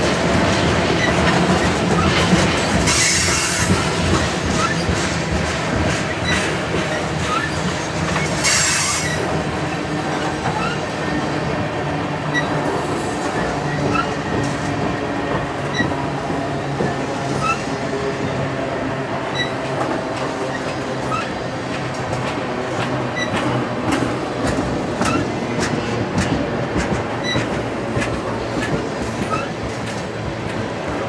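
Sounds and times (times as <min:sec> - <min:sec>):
freight train rumbling past: 0:00.0 - 0:31.0
train wheels clicking over rail joints: 0:00.0 - 0:31.0.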